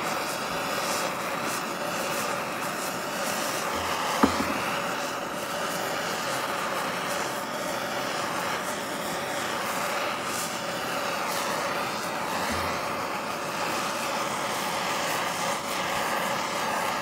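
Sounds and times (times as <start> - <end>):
blowtorch flame hissing: 0.0 - 17.0.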